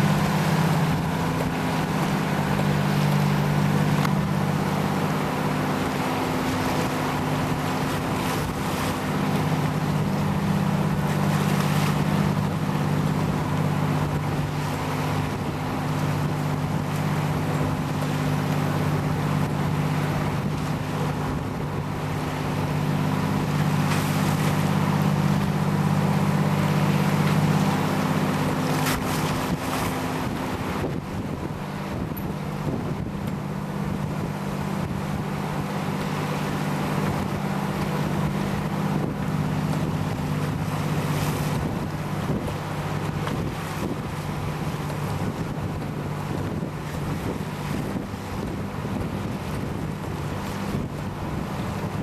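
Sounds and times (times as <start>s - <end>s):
boat engine running: 0.0s - 52.0s
water rushing along hull: 0.0s - 52.0s
wind on microphone: 0.0s - 52.0s.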